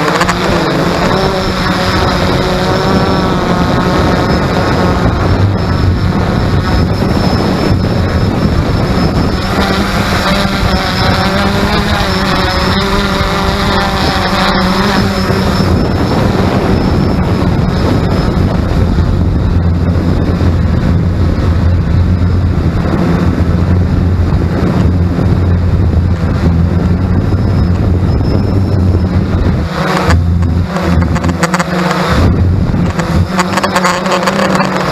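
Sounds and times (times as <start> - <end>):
higher tones: 0.0 - 33.4
drone motors humming: 0.0 - 34.9.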